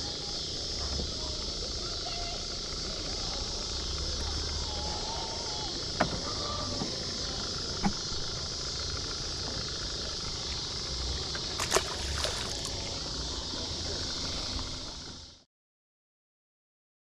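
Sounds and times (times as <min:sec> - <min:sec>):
outdoor background hiss: 0:00.0 - 0:15.4.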